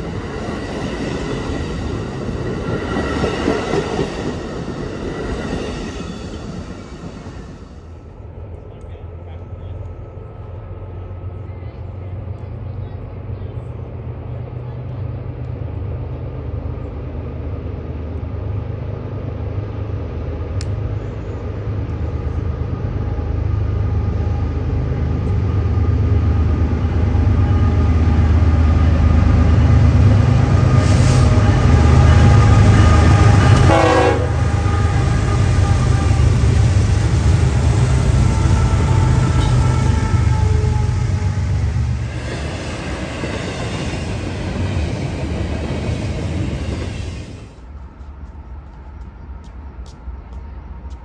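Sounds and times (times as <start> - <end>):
train locomotive rumble: 0.0 - 51.0.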